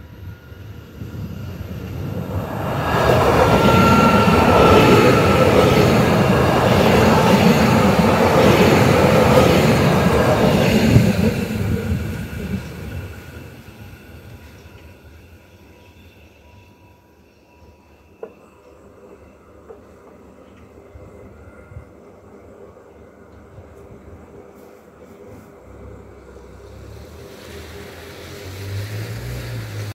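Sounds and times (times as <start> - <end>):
electric train passing: 0.0 - 29.9.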